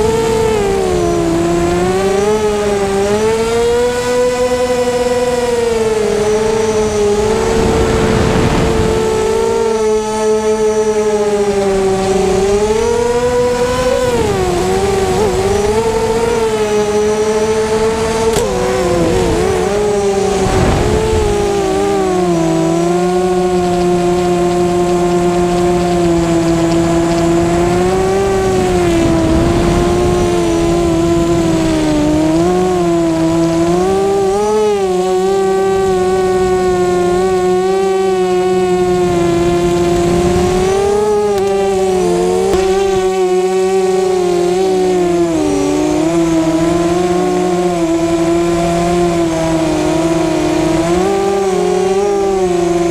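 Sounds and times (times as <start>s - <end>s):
drone motors and propellers whining: 0.0s - 52.9s
wind rushing over microphone: 0.0s - 52.9s.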